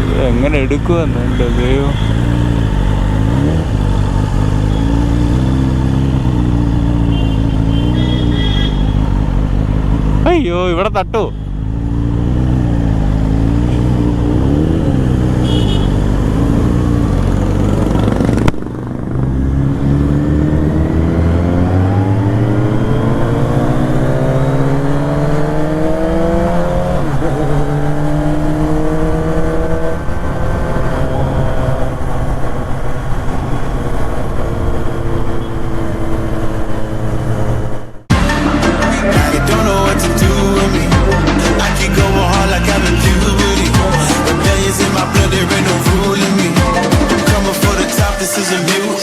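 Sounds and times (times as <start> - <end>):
motorcycle engine accelerating: 0.0 - 48.3.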